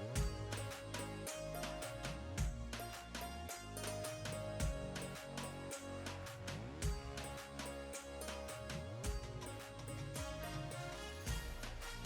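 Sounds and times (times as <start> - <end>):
music with heavy bass beat: 0.0 - 12.0.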